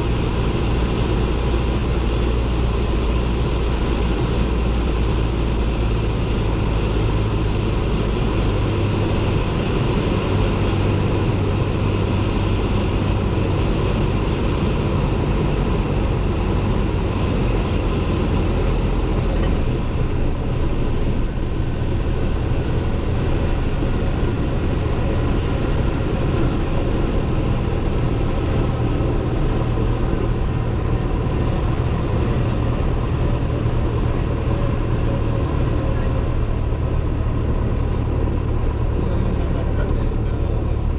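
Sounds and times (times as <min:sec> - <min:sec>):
small plane engine and propeller: 0:00.0 - 0:40.9.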